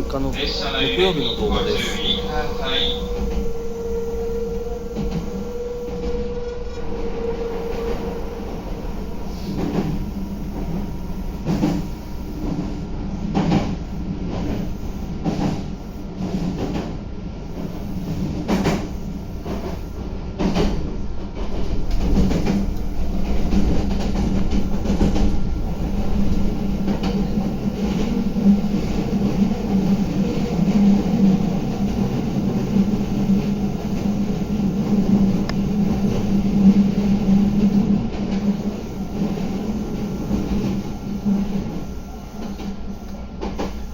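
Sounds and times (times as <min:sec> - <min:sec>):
train running noise with hum: 0:00.0 - 0:43.9.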